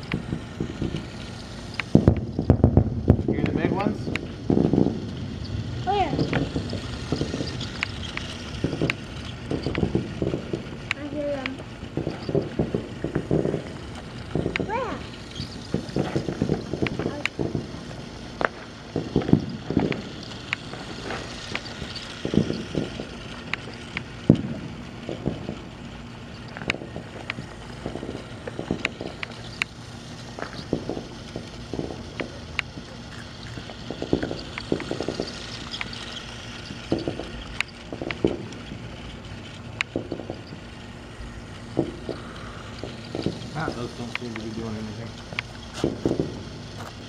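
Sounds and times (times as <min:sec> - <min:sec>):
toy train motor whirring: 0:00.0 - 0:02.4, 0:05.3 - 0:47.0.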